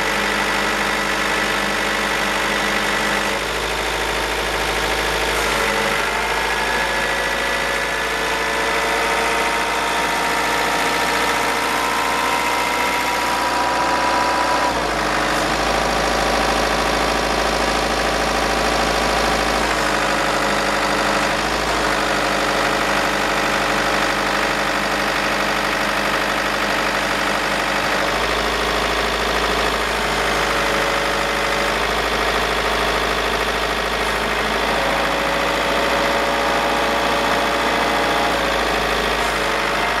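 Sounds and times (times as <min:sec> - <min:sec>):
truck engine driving crane hydraulics: 0:00.0 - 0:40.0.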